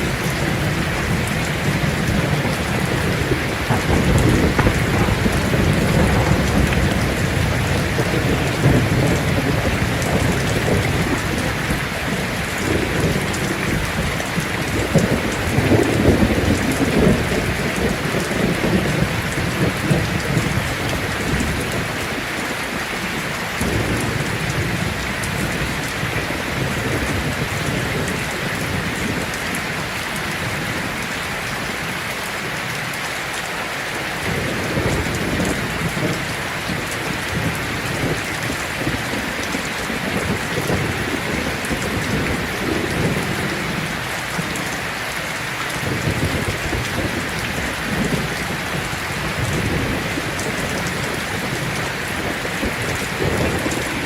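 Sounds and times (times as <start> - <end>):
thunder rumbling: 0.0 - 31.9, 34.2 - 54.0
heavy rain on a tin roof: 0.0 - 54.0.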